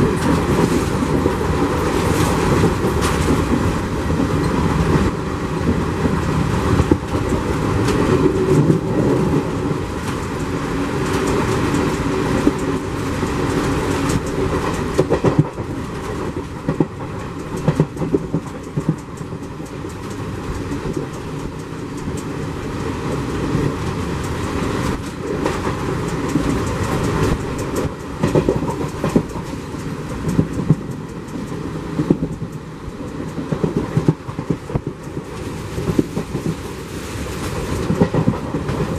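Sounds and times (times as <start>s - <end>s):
train running rumble: 0.0s - 38.9s
wheels clattering over rail joints: 0.0s - 38.9s.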